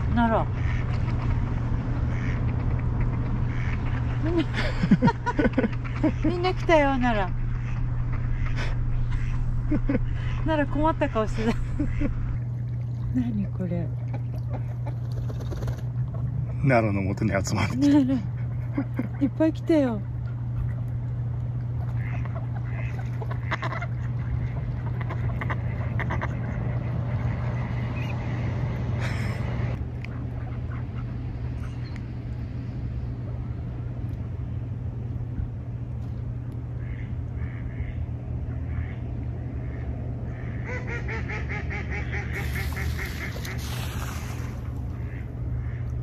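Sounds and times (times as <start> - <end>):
ducks quacking: 0.0 - 12.7, 14.0 - 19.4, 21.7 - 31.8, 36.7 - 46.0
steady low hum: 0.0 - 46.0.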